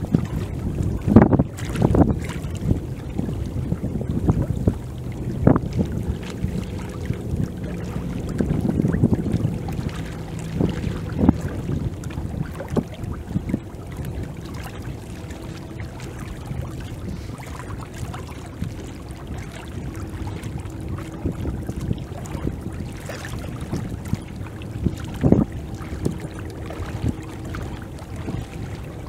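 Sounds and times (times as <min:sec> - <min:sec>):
lake water lapping: 0:00.0 - 0:29.0
wind rumbling on microphone: 0:00.0 - 0:29.0.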